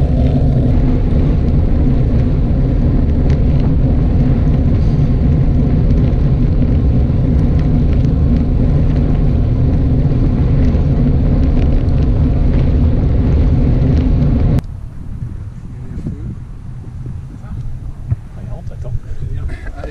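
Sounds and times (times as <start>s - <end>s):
road rumble: 0.0s - 19.9s
wind buffeting microphone: 0.0s - 19.9s.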